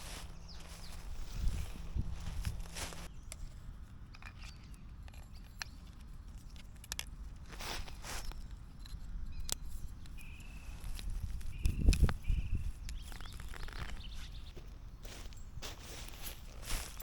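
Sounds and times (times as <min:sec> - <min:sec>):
wind rumble on microphone: 0:00.0 - 0:04.8, 0:07.5 - 0:17.0
gear clicking and rustling: 0:00.0 - 0:17.0.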